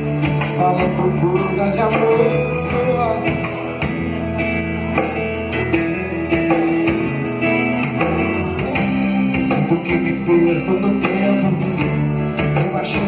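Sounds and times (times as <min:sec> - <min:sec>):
band playing: 0:00.0 - 0:13.0
bass: 0:00.0 - 0:13.0
guitars: 0:00.0 - 0:13.0
steady drum beat: 0:00.0 - 0:13.0.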